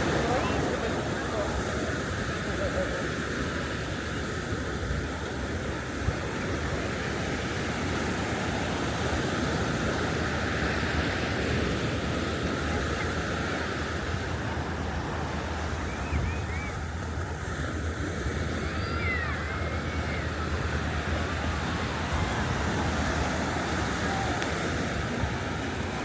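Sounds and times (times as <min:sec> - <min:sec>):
ocean surf washing onto beach: 0:00.0 - 0:26.0.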